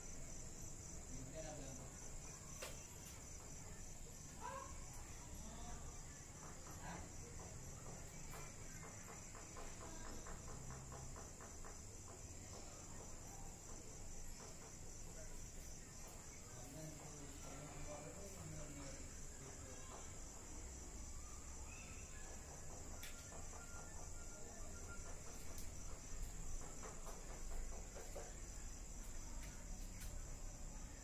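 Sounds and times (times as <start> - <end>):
high-pitched insect trill: 0.0 - 31.0.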